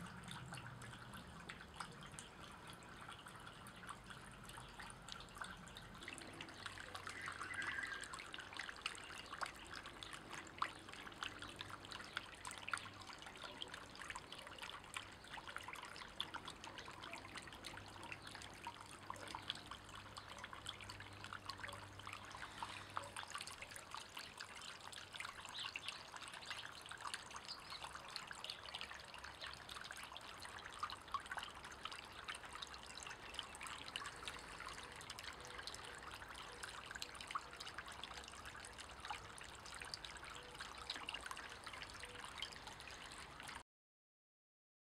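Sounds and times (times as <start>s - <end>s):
fountain water splashing: 0.0s - 43.6s.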